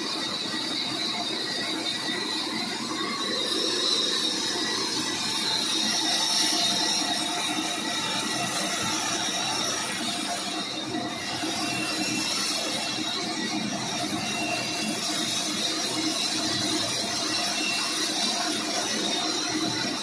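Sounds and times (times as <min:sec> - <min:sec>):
saw cutting through wood: 0:00.0 - 0:20.0.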